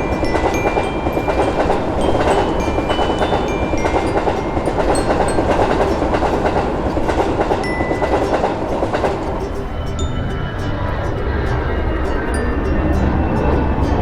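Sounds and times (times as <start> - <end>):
wheels clattering over rail joints: 0.0 - 11.8
train rolling rumble: 0.0 - 14.0.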